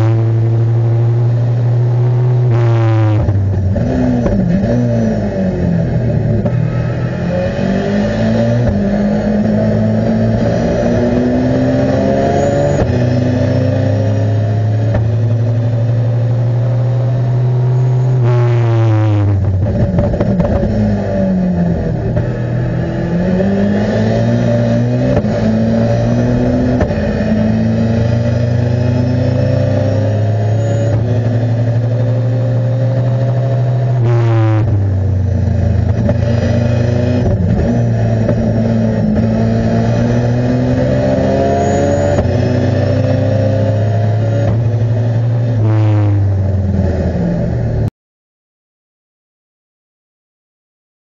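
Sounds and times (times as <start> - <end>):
racing engine revving: 0.0 - 47.9.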